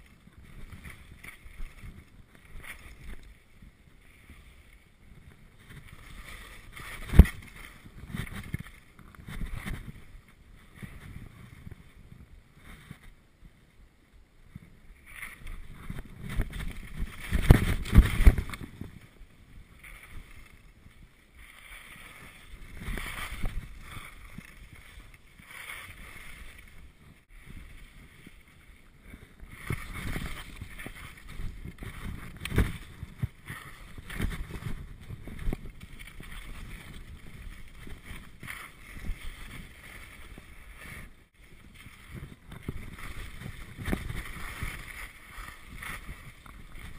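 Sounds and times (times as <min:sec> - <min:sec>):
skis scraping on snow: 0:00.0 - 0:13.2, 0:14.4 - 0:46.9.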